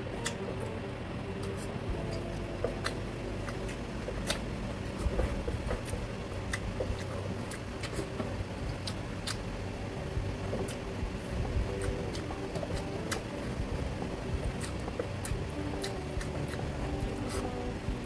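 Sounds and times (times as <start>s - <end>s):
person eating: 0.0s - 18.0s
steady low hum: 0.0s - 18.0s.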